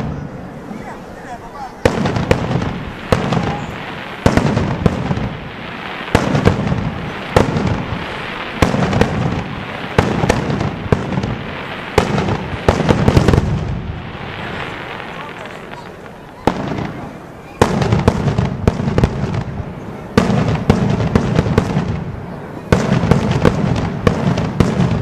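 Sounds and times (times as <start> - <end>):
fireworks bangs with echo: 0.0 - 1.0, 1.7 - 25.0.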